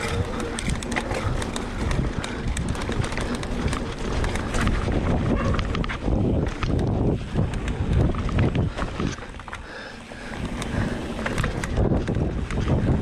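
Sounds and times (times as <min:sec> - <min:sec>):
bike clicks and rattles: 0:00.0 - 0:13.0
bike tyres rolling on dirt: 0:00.0 - 0:13.0
wind buffeting microphone: 0:00.0 - 0:13.0.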